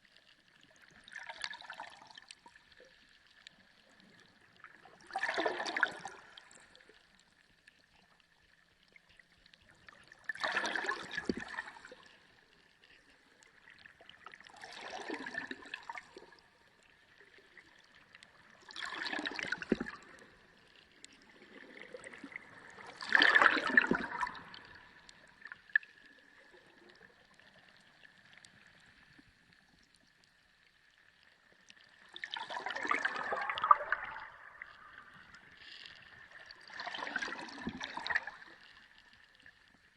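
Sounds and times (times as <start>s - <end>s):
underwater sea water surging: 0.0s - 7.8s, 8.4s - 30.0s, 31.1s - 39.9s.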